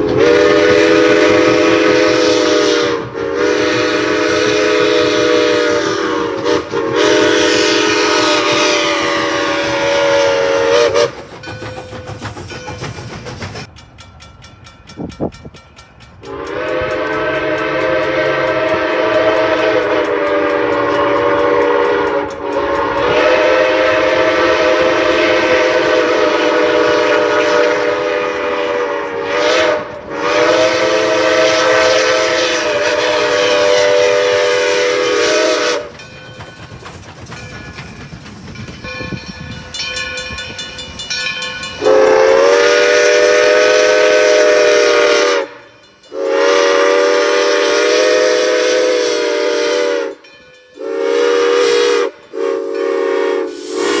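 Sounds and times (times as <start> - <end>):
steam locomotive whistle: 0.0 - 13.6, 16.2 - 54.0
train clatter: 0.0 - 54.0.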